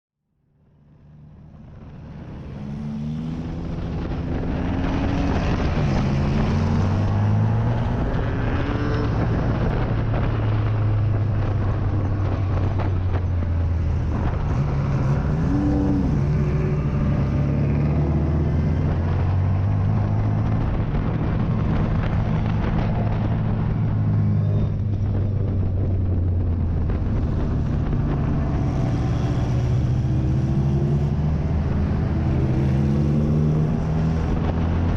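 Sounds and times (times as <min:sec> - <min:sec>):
race car engine accelerating: 0:01.8 - 0:34.9.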